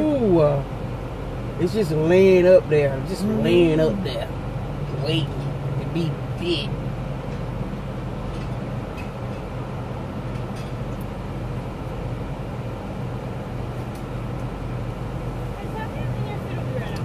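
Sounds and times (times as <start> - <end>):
car idling hum: 0.0 - 17.0.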